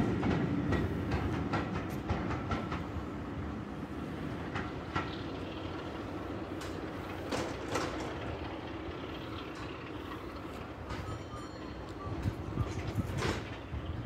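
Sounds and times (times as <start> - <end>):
train rumbling on tracks: 0.0 - 14.0.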